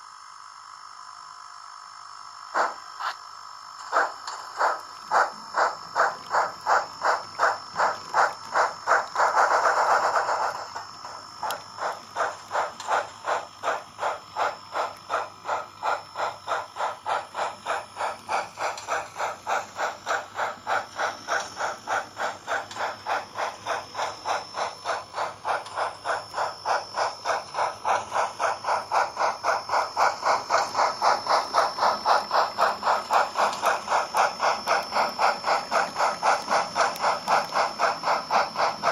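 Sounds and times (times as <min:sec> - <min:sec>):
model steam locomotive chuffing: 0:00.0 - 0:38.9
steam hiss: 0:02.1 - 0:38.9.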